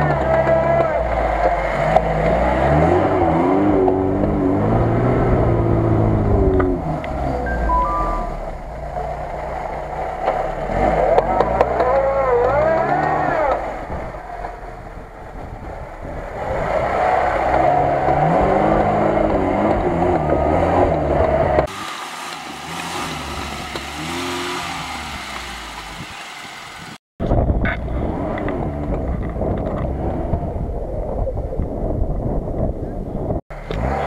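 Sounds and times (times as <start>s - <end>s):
car engine revving: 0.0s - 27.0s, 33.5s - 34.0s.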